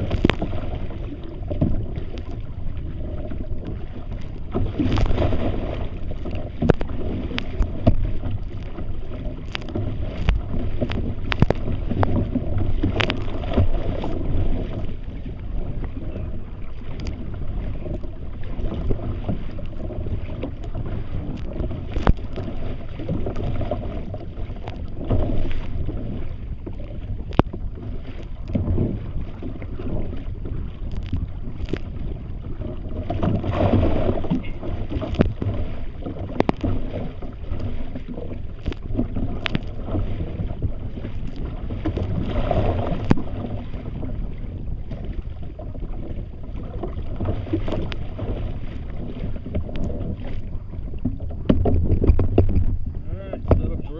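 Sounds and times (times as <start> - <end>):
water slapping against kayak hull: 0.0 - 53.9
wind buffeting microphone: 0.0 - 53.9.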